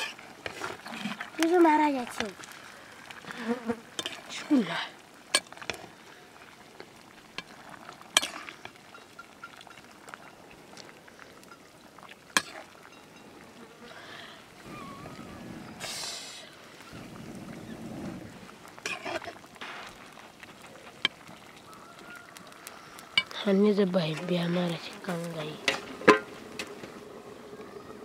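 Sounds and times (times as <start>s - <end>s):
curry sizzling in a pan: 0.0s - 27.9s.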